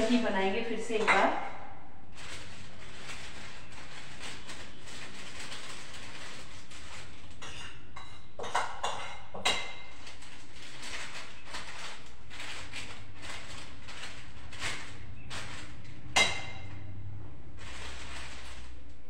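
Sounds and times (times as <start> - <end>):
plastic piping bag rustling: 0.0 - 1.1, 2.0 - 7.8, 9.4 - 16.8, 17.5 - 19.0.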